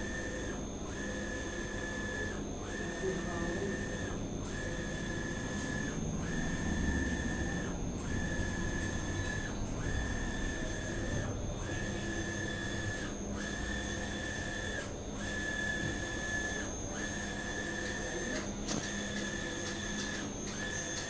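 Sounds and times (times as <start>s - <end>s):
low mechanical hum: 0.0s - 21.0s
printer carriage whine: 0.0s - 21.0s.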